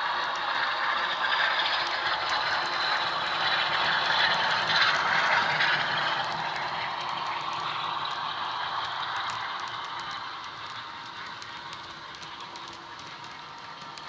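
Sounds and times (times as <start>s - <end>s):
diesel locomotive engine sound: 0.0s - 14.0s
model train wheels clattering: 0.0s - 14.0s.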